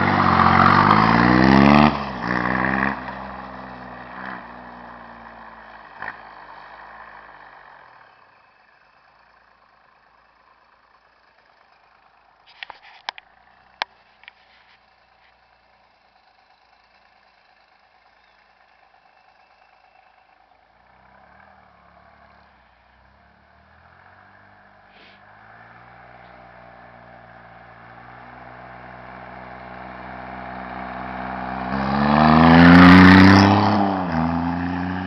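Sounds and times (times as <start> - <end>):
motorcycle accelerating: 0.0 - 35.0.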